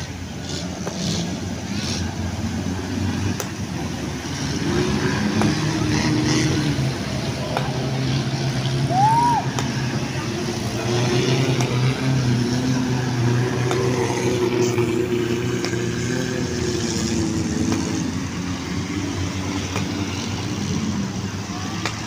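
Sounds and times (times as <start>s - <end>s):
jeep engines running: 0.0s - 22.0s
wind: 0.0s - 22.0s.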